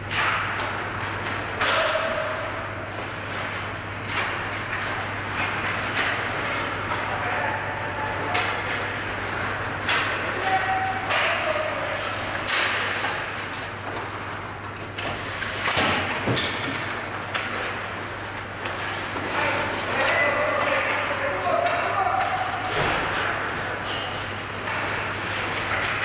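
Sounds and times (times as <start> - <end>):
puck and sticks hitting boards: 0.1 - 26.0.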